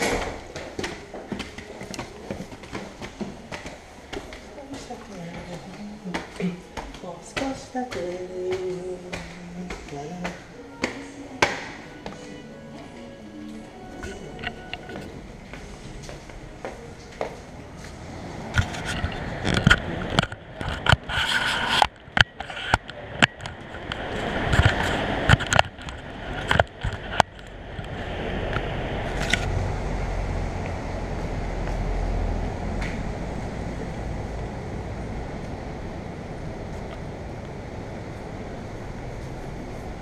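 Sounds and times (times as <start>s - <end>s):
city street traffic rumble: 0.0s - 40.0s.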